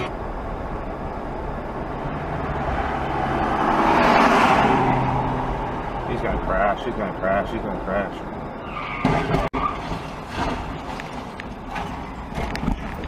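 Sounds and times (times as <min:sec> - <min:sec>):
car engine and tyre hum: 0:00.0 - 0:13.0.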